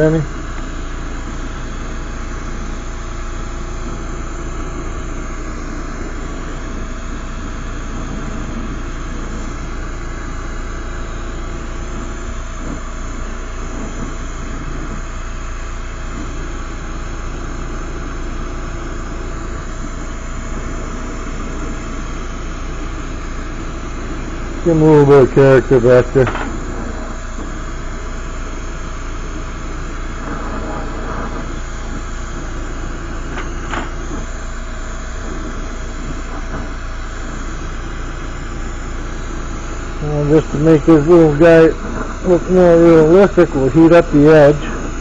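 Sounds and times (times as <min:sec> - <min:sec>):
torch flame rushing: 0:00.0 - 0:45.0.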